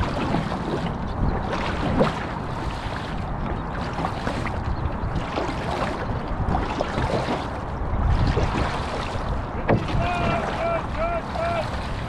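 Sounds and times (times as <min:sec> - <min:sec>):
paddle driving through water: 0:00.0 - 0:12.0
water rushing along canoe hull: 0:00.0 - 0:12.0
wind rumble on microphone: 0:00.0 - 0:12.0.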